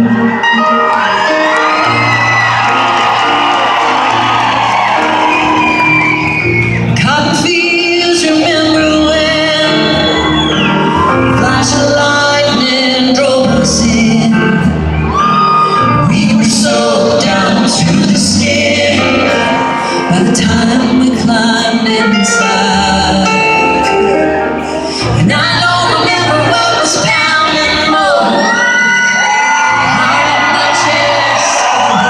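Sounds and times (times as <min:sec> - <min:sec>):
live country band playing: 0:00.0 - 0:32.0.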